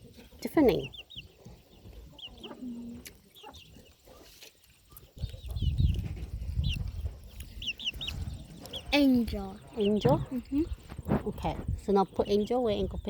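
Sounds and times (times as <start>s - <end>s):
baby chicks peeping: 0.0s - 13.0s.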